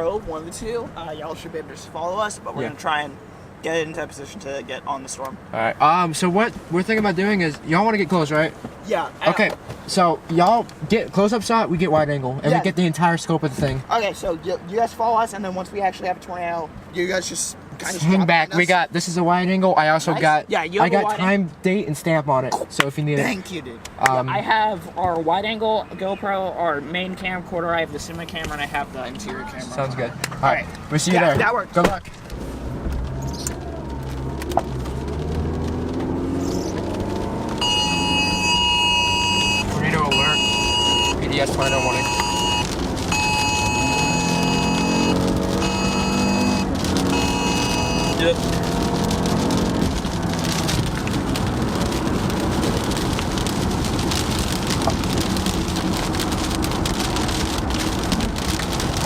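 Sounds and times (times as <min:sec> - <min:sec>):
car engine and road drone: 0:00.0 - 0:59.0.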